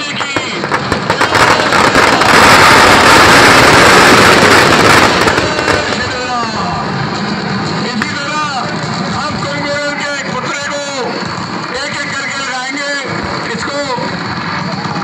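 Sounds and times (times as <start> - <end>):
firecrackers crackling: 0.0 - 15.0.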